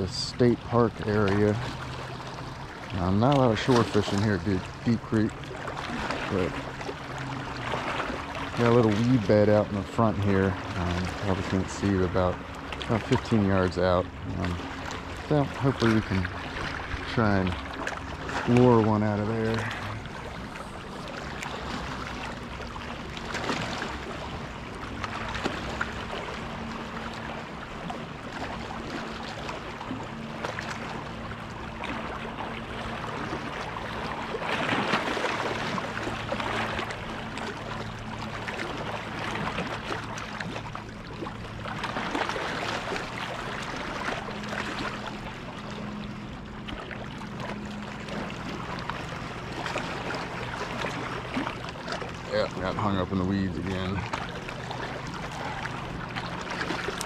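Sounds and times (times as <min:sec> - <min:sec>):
motorboat engines droning: 0:00.0 - 0:57.0
small waves lapping on rocks: 0:00.0 - 0:57.0.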